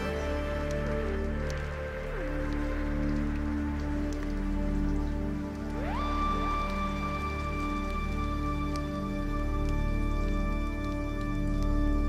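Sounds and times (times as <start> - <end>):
calm background music: 0.0 - 12.0.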